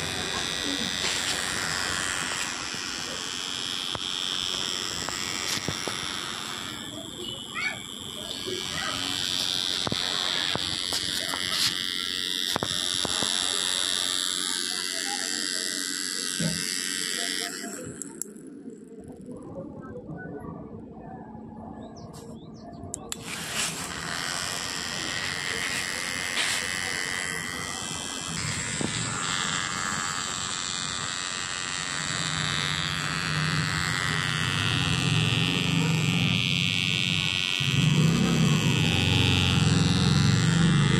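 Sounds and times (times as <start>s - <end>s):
toy motor whining: 0.0s - 19.3s, 23.0s - 40.9s.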